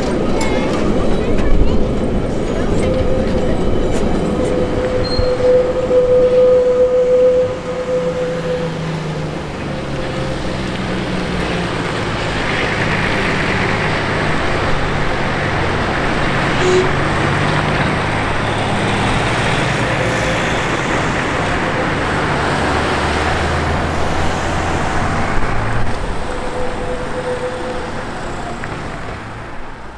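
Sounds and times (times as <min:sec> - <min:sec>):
car engines humming: 0:00.0 - 0:29.9
steam train rolling slowly: 0:00.0 - 0:29.9.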